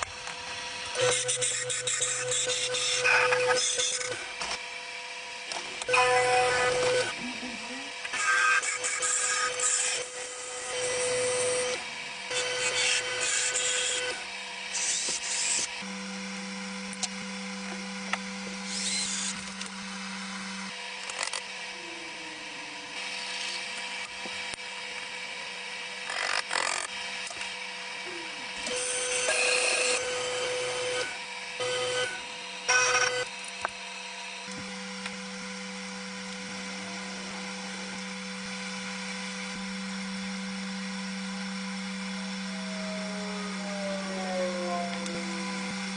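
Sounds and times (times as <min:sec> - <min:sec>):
small power tool humming: 0:00.0 - 0:45.9.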